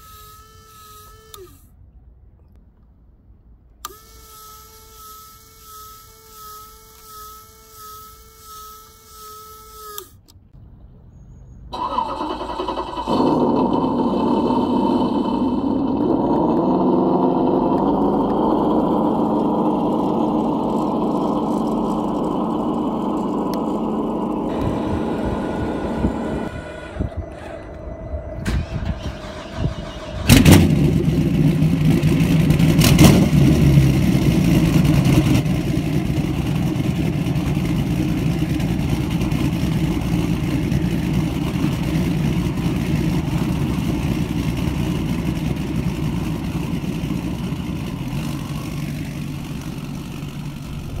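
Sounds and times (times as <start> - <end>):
engine starting and running: 0.0 - 1.8, 9.1 - 51.0.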